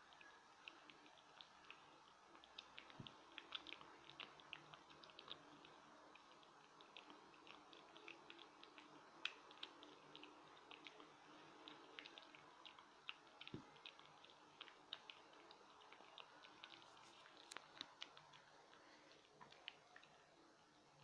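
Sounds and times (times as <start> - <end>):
cat chewing and licking: 0.0 - 21.0.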